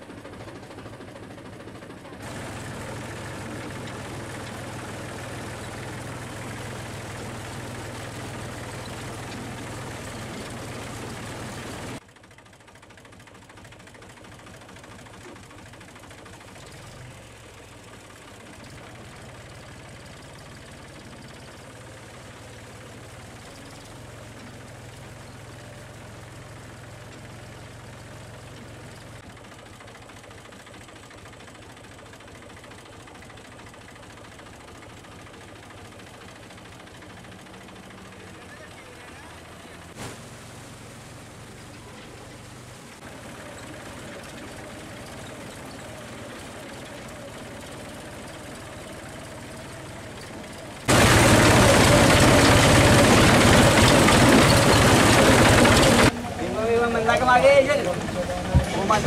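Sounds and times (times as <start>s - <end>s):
motorcycle engine hum: 0.0s - 59.0s
tractor engine running: 0.0s - 59.0s.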